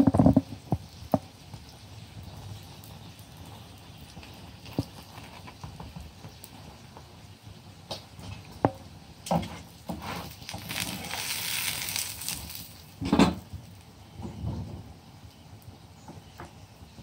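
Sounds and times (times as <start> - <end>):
flatbread sizzling in oil: 0.0 - 17.0.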